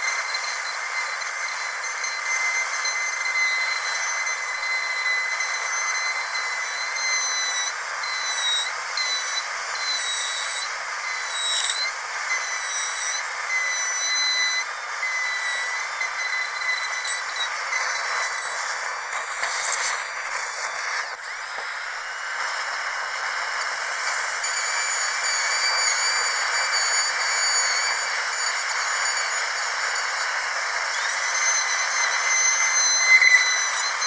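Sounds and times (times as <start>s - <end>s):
dentist's drill whining: 0.0s - 34.0s
hiss: 3.4s - 34.0s.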